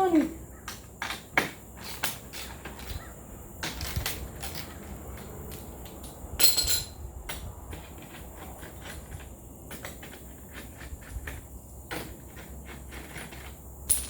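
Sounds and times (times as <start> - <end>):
tools clicking and knocking: 0.6 - 14.0
metallic clatter: 0.8 - 14.0.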